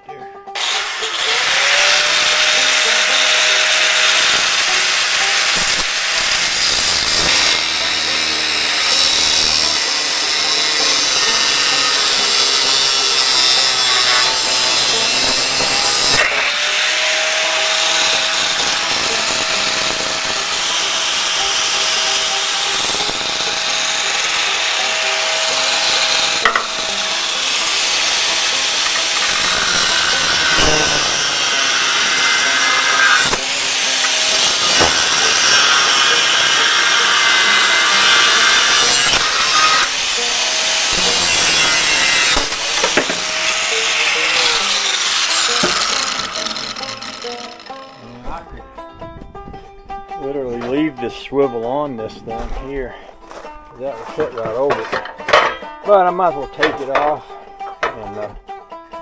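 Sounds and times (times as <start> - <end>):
grinder cutting metal: 0.5 - 48.4.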